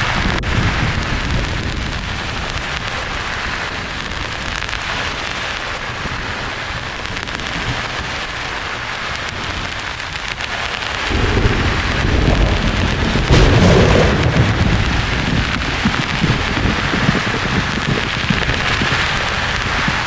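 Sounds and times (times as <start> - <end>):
thunder rumbling: 0.0 - 7.9, 10.5 - 20.0
rain hiss: 0.0 - 20.0.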